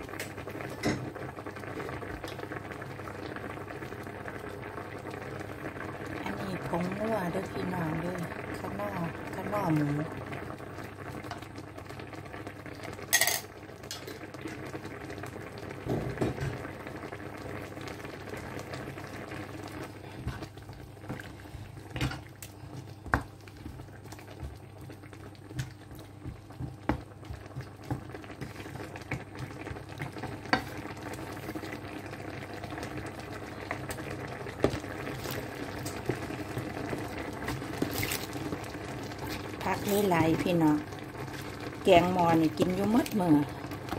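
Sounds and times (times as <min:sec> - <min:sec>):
curry bubbling in a wok: 0:00.0 - 0:43.9.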